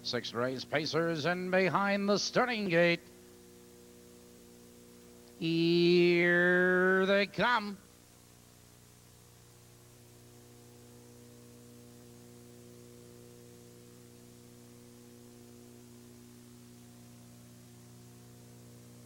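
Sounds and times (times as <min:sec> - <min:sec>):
faint hiss: 0:00.0 - 0:19.0
low electrical hum: 0:00.0 - 0:19.0.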